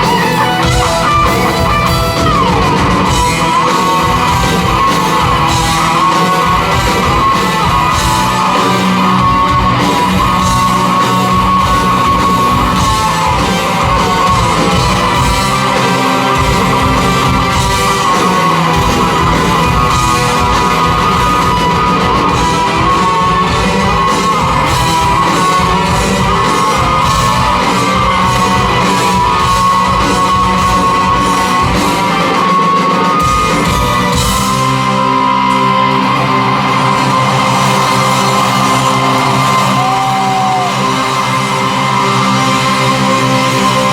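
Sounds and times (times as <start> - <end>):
electric guitar: 0.0 - 43.9
heavy drums: 0.0 - 43.9
live rock band playing: 0.0 - 43.9.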